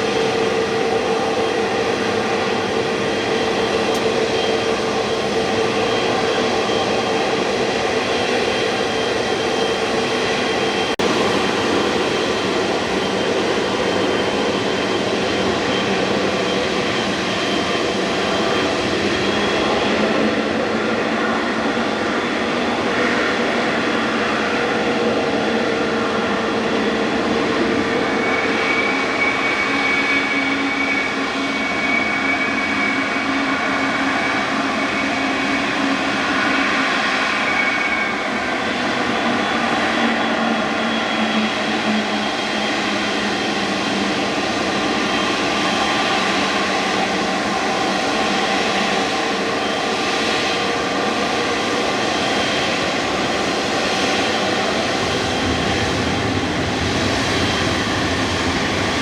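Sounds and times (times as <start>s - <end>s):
jet engines rushing and whining: 0.0s - 59.0s.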